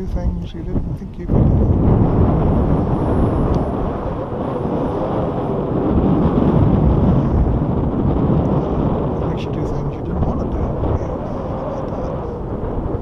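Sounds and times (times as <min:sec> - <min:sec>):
high electric fan whine: 0:00.0 - 0:13.0
wind buffeting microphone: 0:00.0 - 0:13.0.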